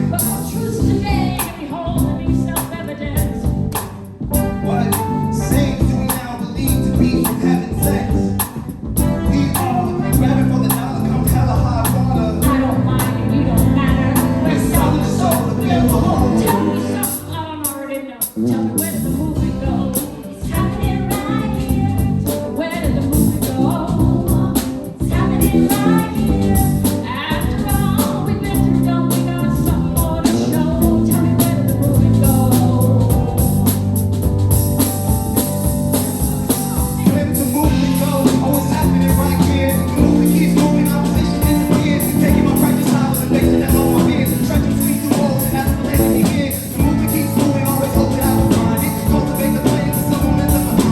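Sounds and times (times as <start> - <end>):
live band playing with singing: 0.0 - 50.9.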